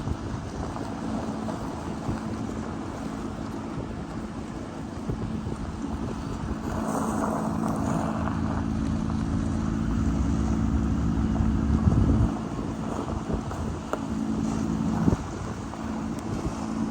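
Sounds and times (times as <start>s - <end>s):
engine rumble: 0.0s - 16.9s.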